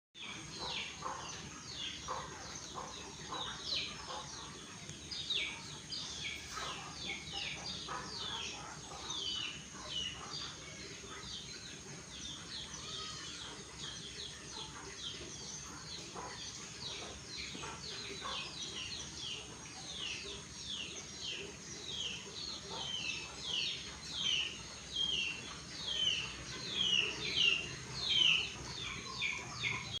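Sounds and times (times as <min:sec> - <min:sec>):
small birds chirping: 0:00.2 - 0:30.0.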